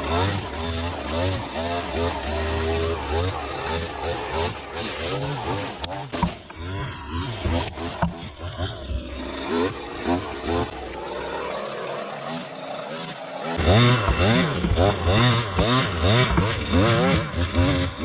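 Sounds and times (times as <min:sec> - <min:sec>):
power saw cutting wood: 0:00.0 - 0:18.0.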